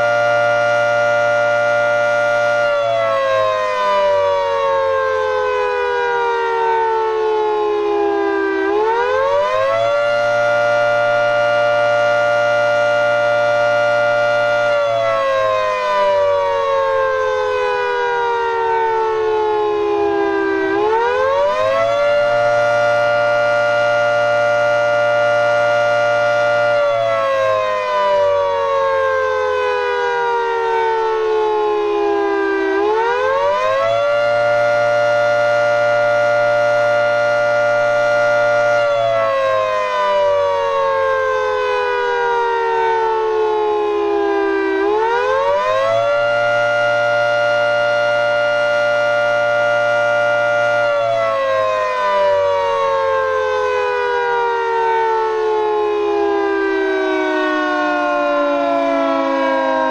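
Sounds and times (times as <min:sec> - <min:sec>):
warning siren wailing: 0:00.0 - 0:59.9.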